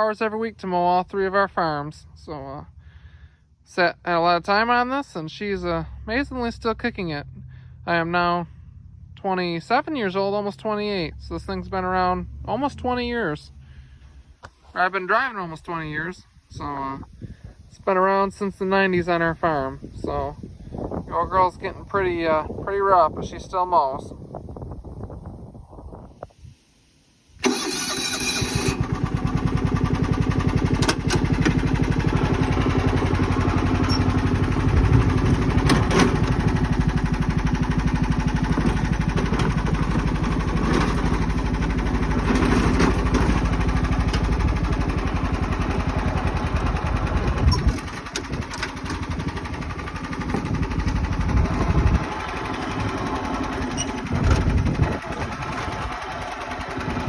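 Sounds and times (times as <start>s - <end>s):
lawn mower engine running: 5.6s - 25.2s, 27.4s - 57.0s.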